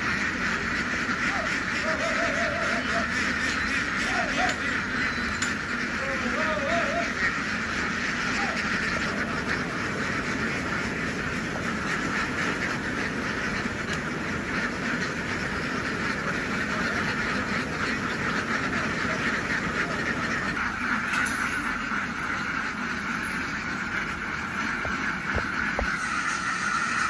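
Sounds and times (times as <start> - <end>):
flock of ducks quacking: 0.0 - 27.0.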